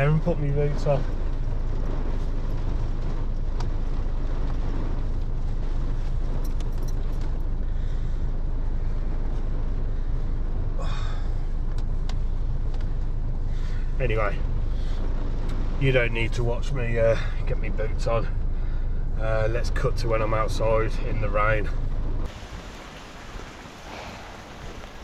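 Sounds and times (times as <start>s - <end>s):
rain and wind on a car: 0.0s - 25.0s.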